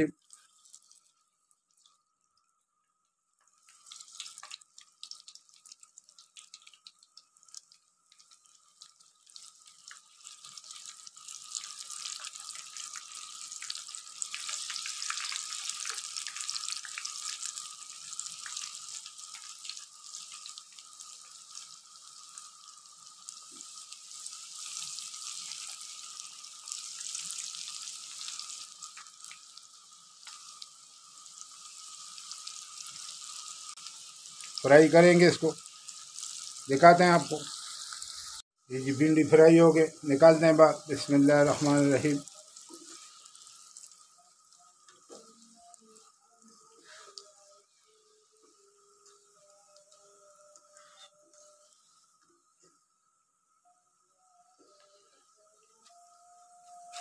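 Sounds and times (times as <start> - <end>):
deep-frying sizzle with pops: 0.0 - 57.0.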